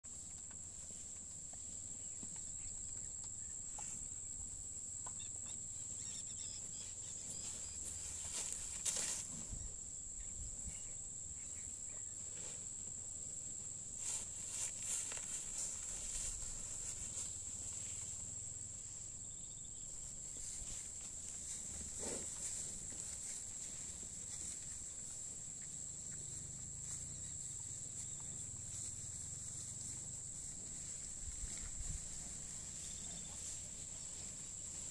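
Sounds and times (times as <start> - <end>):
insects chirring: 0.1 - 34.9.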